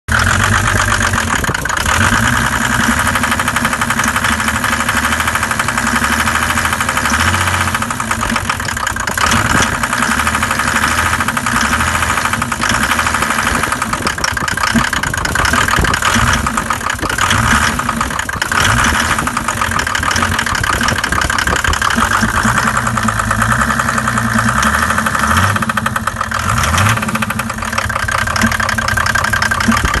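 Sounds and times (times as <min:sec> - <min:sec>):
engine knocking: 0:00.0 - 0:30.0
diesel engine clattering: 0:00.1 - 0:30.0.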